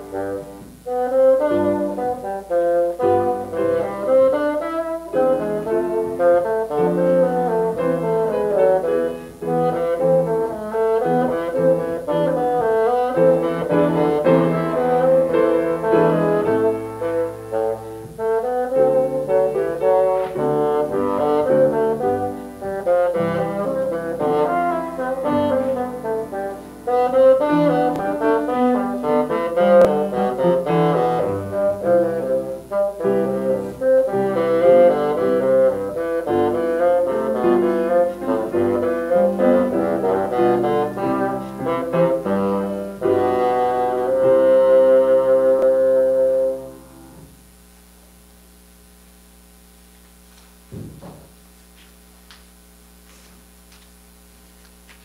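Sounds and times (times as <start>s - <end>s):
bassoon playing: 0.0s - 47.2s.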